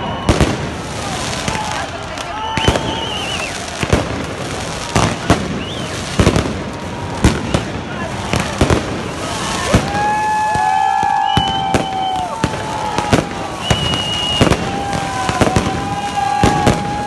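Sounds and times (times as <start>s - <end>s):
firecracker bangs: 0.0s - 17.0s
firework whistles: 0.0s - 17.0s.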